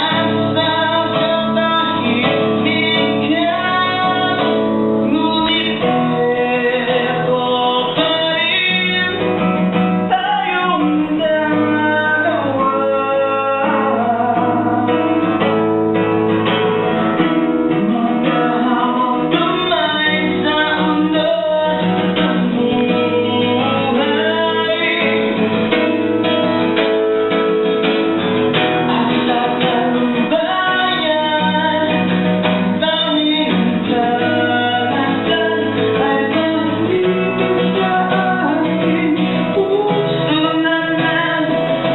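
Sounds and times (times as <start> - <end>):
plucked strings: 0.0 - 41.9.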